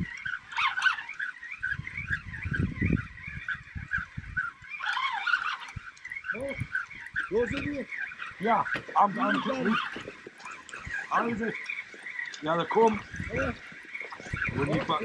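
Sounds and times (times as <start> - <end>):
low wind rumble on microphone: 0.0 - 0.6, 1.5 - 4.8, 5.6 - 12.0, 12.8 - 15.0
birds calling with high notes: 0.0 - 15.0.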